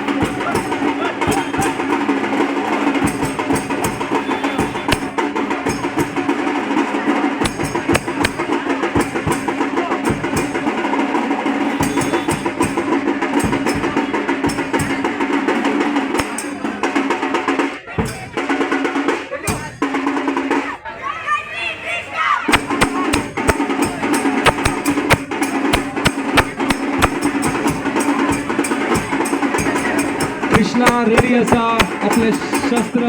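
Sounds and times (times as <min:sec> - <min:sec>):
percussion-heavy music with drums: 0:00.0 - 0:20.8, 0:22.5 - 0:33.0.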